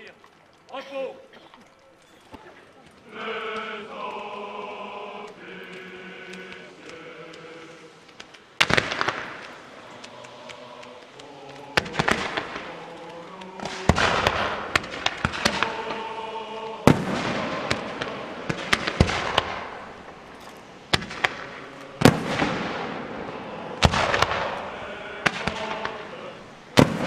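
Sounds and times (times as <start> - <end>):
fireworks bangs with crackling: 2.3 - 27.0.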